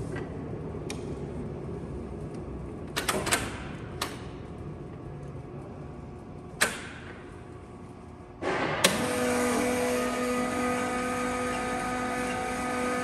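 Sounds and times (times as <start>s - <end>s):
machine humming: 0.1s - 13.0s.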